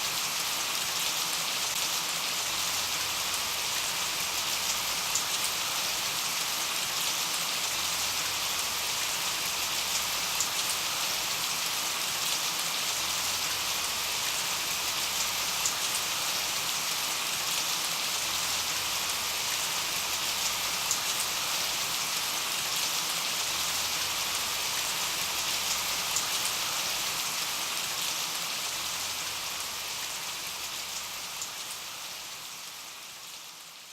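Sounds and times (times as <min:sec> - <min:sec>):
rain hissing: 0:00.0 - 0:33.9.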